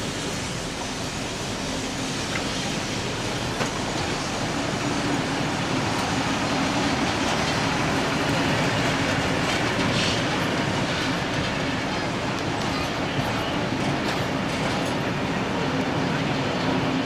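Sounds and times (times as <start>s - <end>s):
train wheels clickety-clack: 0.0s - 17.0s.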